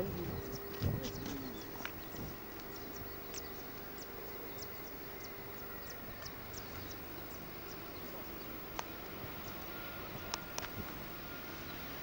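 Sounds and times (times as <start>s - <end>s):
small birds chirping: 0.0s - 9.7s
low hum: 0.0s - 12.0s.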